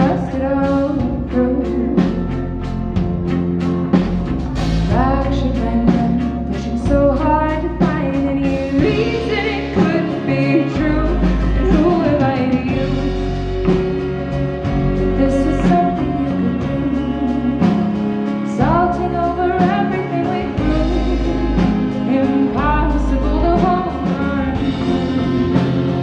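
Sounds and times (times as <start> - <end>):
lead vocal singing: 0.0 - 2.5, 4.6 - 26.0
bass guitar: 0.0 - 26.0
drums: 0.0 - 26.0
rock band playing: 0.0 - 26.0.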